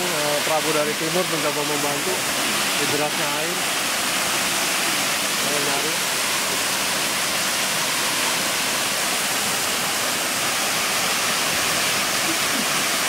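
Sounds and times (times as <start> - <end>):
waterfall rushing and splashing: 0.0 - 13.0.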